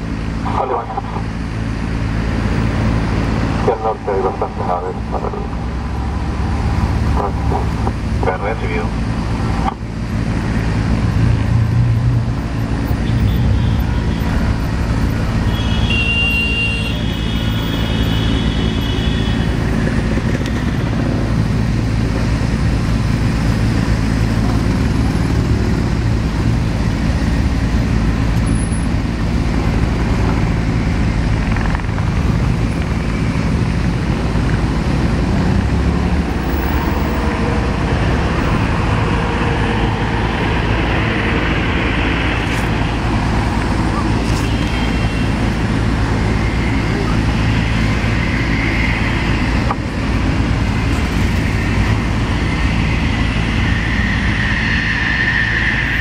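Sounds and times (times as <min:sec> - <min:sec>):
distant jet landing rumble: 0:00.0 - 0:15.9, 0:17.0 - 0:56.0
high jet whine: 0:00.0 - 0:56.0.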